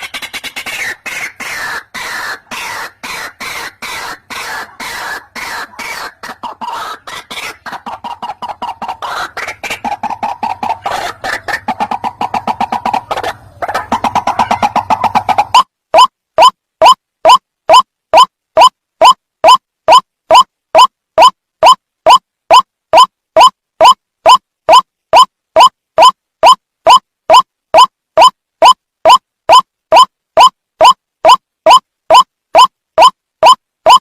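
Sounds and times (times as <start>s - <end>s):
waterhen calling harsh notes: 0.0s - 27.9s, 28.6s - 34.0s.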